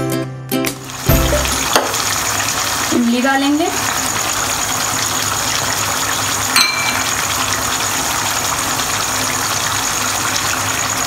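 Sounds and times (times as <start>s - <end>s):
curry sizzling in a frying pan: 0.8s - 11.0s.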